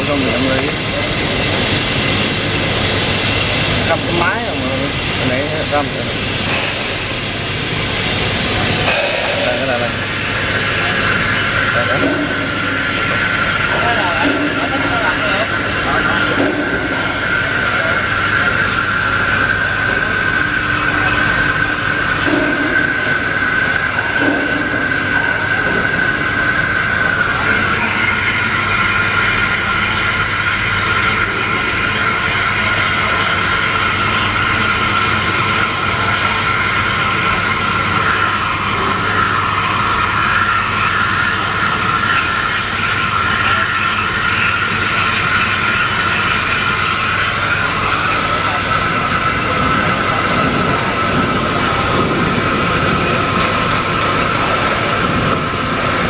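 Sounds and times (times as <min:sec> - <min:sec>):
wire cutting machine running: 0:00.0 - 0:56.0.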